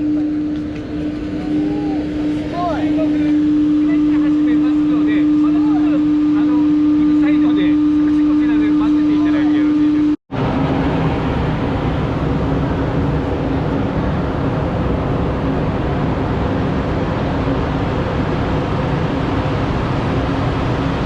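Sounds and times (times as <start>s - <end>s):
tramway drive machinery droning: 0.0s - 21.0s.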